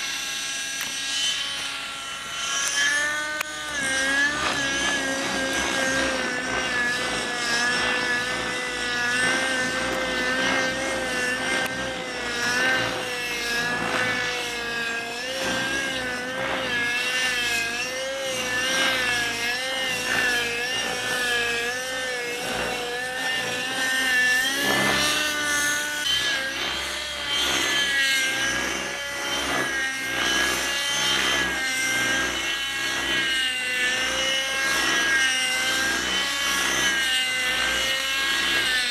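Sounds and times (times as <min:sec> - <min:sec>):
model helicopter motor whine: 0:00.0 - 0:38.9.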